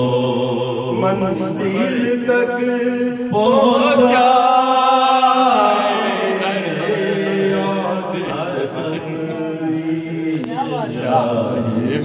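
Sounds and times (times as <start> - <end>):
man singing devotional song: 0.0 - 12.0.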